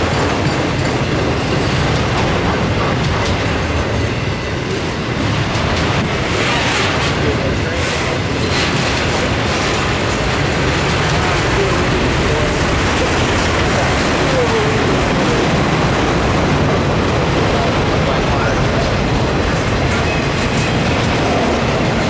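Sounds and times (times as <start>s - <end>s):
steel wheels rumbling on rails: 0.0s - 22.0s.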